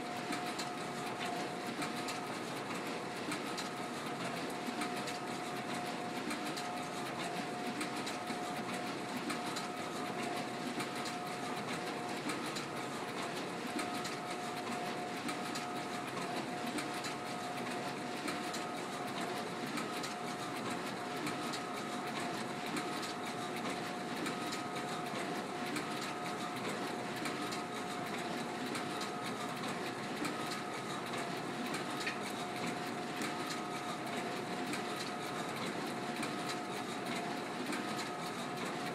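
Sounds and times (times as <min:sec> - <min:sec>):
printer mechanical whir: 0:00.0 - 0:38.9.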